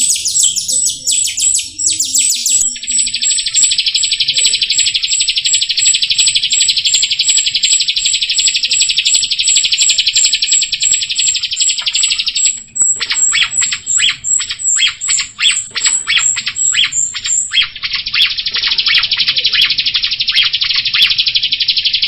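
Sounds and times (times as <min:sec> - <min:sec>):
buzzy bird trill with whistled note: 0:00.0 - 0:21.9
starling chirping: 0:00.0 - 0:22.0.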